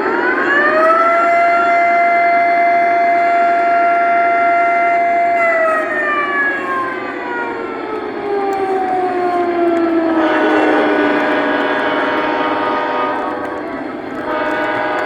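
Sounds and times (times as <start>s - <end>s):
siren wailing from speaker: 0.0s - 15.0s.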